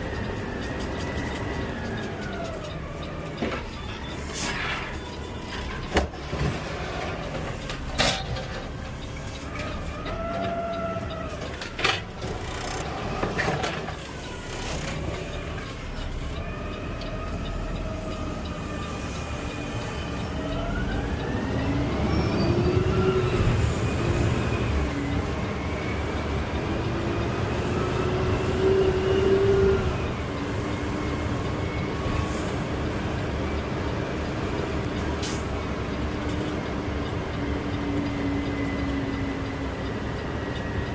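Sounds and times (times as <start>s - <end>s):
garbage truck engine whine: 0.0s - 40.9s.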